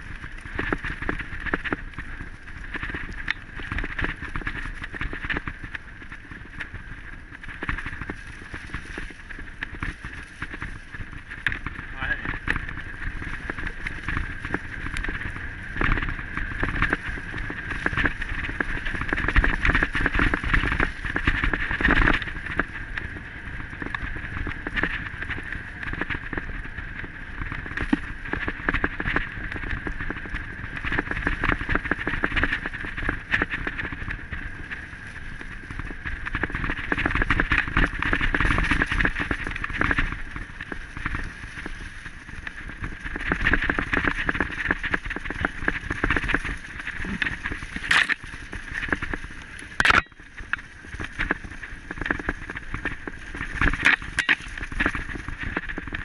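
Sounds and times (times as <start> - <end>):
wind rushing over camera: 0.0 - 56.0.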